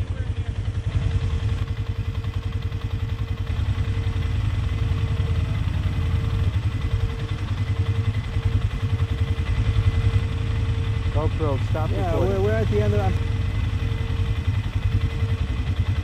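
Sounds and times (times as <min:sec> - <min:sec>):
atv engine running at low revs: 0:00.0 - 0:16.0.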